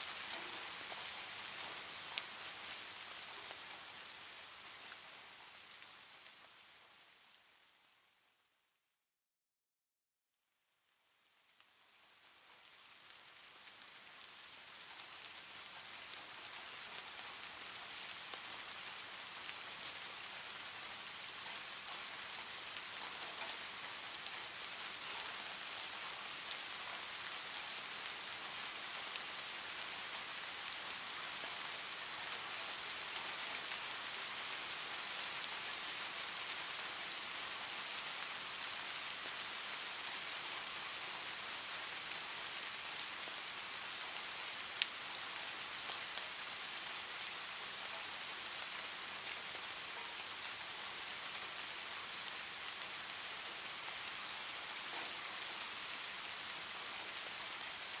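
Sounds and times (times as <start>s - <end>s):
heavy rain: 0.0s - 8.2s, 11.2s - 58.0s.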